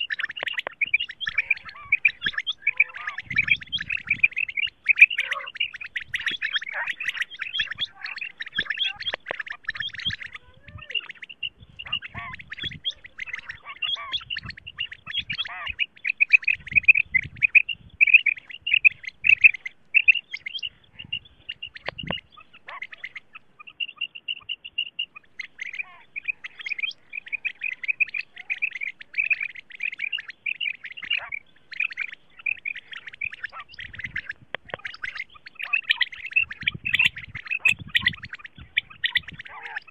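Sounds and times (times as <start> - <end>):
quail chirping calls: 0.0 - 39.9.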